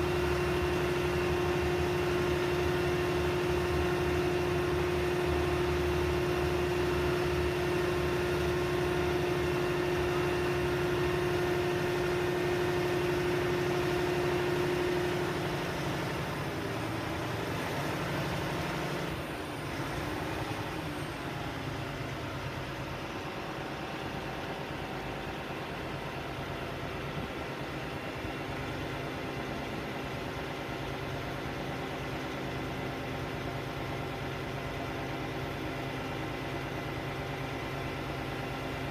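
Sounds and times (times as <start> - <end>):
crane engine running: 0.0 - 38.9.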